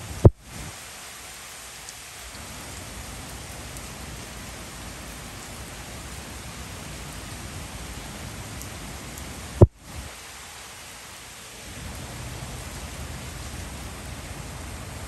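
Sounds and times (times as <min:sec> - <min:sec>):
heavy rain on wooden deck and trees: 0:00.0 - 0:15.0.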